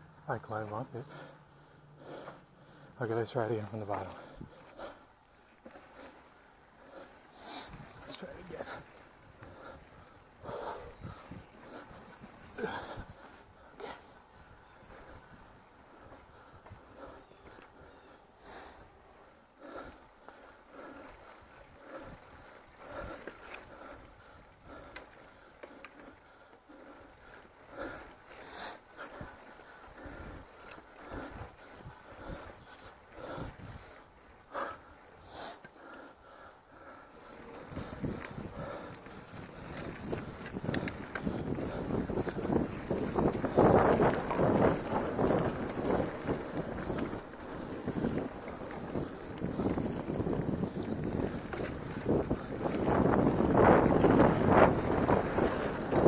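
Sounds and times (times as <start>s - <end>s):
bike clicks and rattles: 0.0s - 56.0s
rider breathing: 0.0s - 56.0s.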